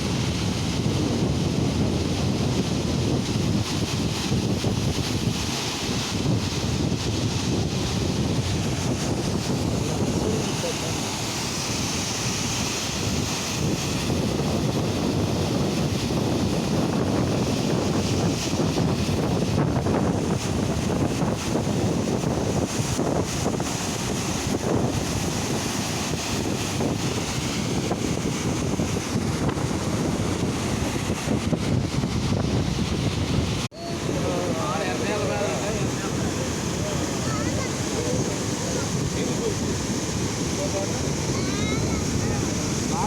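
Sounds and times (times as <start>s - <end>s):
flood water rushing: 0.0s - 43.0s
wind buffeting microphone: 0.0s - 43.0s.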